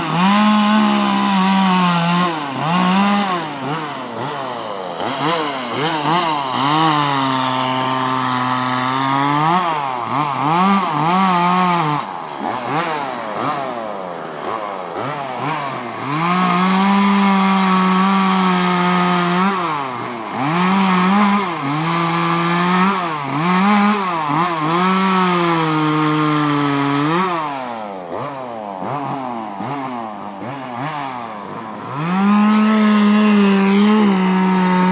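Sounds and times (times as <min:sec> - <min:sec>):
chainsaw revving and cutting wood: 0:00.0 - 0:34.9.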